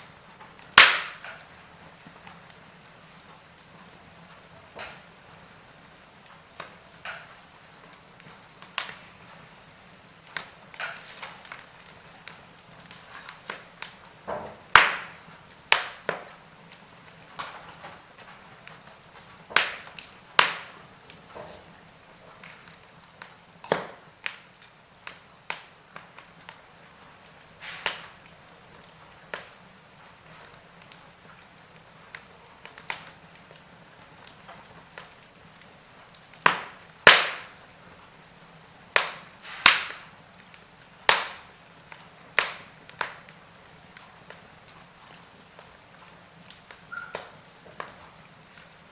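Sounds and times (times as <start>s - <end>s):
faint fire hiss: 0.0s - 48.9s
wood fire crackling and popping: 0.0s - 48.9s.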